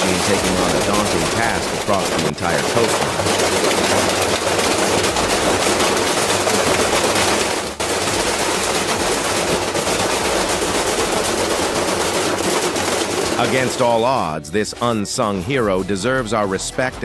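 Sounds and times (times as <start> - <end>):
machine rattling clatter: 0.0 - 15.5.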